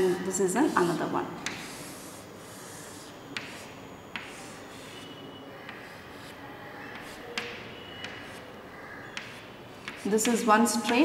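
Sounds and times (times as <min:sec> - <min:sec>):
chalk scratching on chalkboard: 0:00.0 - 0:11.0
chalk taps: 0:00.0 - 0:11.0.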